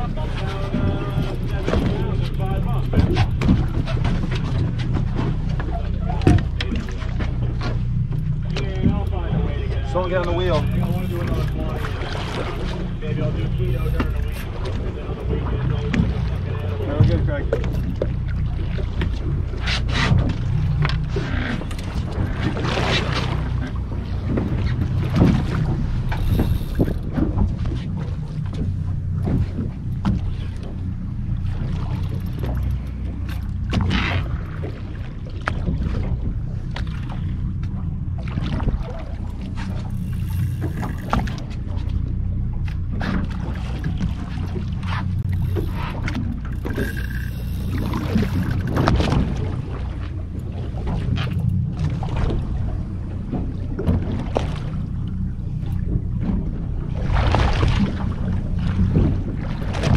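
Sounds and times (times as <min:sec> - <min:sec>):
boat engine rumble: 0:00.0 - 0:59.9
splashy water wash: 0:00.0 - 0:59.9
water washing against hull: 0:00.0 - 0:59.9
wind: 0:00.0 - 0:59.9.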